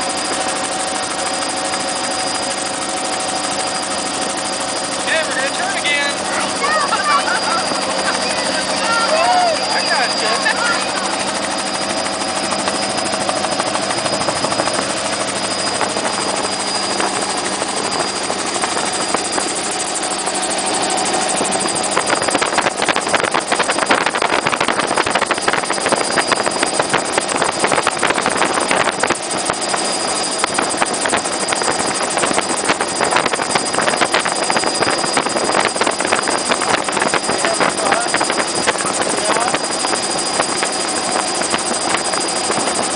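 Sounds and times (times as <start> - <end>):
helicopter engine and rotor noise: 0.0 - 42.9.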